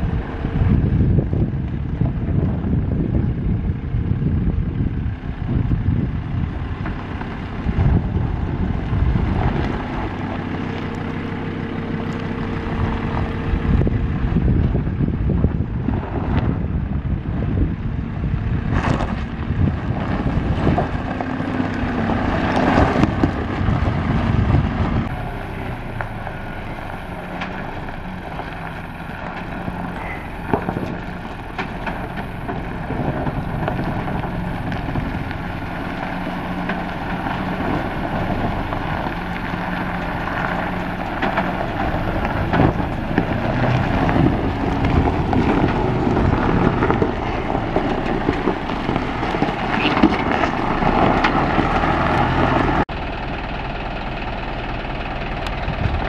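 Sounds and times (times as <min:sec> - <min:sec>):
wind buffeting microphone: 0:00.0 - 0:53.0, 0:54.9 - 0:56.0
truck diesel engine crawling: 0:00.0 - 0:56.0
vehicle engine: 0:00.0 - 0:56.0.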